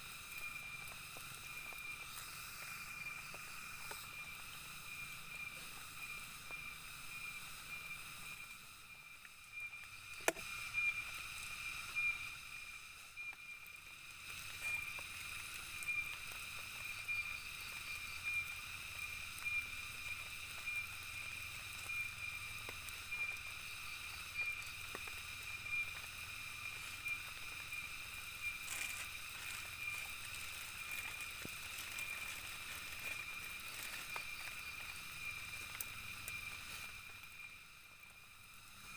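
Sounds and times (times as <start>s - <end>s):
faint ticks: 0.0s - 38.9s
high-pitched insect drone: 0.0s - 38.9s
soft hiss: 0.0s - 38.9s.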